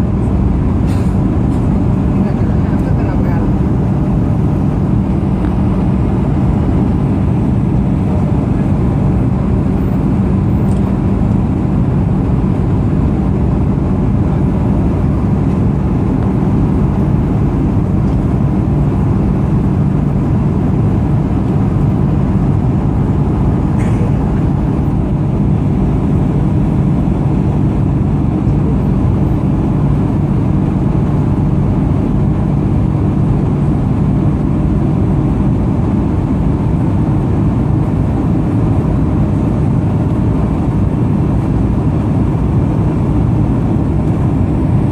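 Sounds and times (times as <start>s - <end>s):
aircraft cabin drone: 0.0s - 44.9s
jet engine whine: 0.0s - 44.9s.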